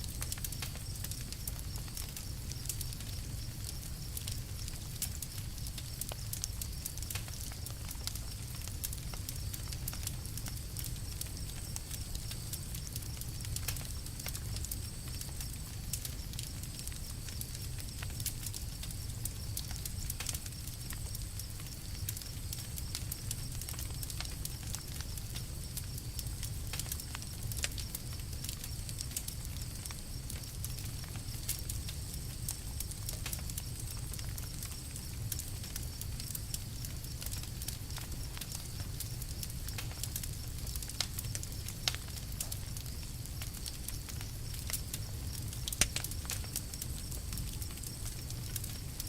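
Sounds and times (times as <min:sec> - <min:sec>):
campfire pops and snaps: 0:00.0 - 0:49.0
low fire rumble: 0:00.0 - 0:49.0.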